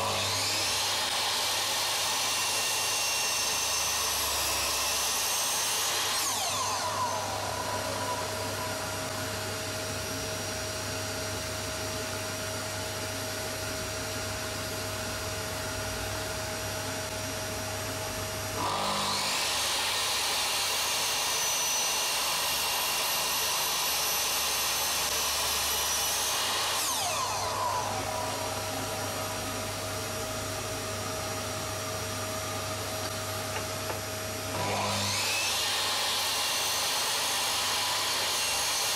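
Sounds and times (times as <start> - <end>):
miter saw motor running: 0.0 - 10.9, 18.6 - 38.9.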